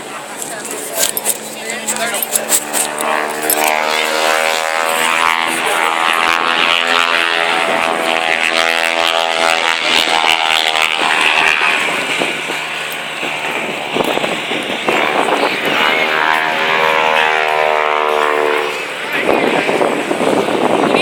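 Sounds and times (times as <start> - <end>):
airplane flying over: 0.0 - 21.0.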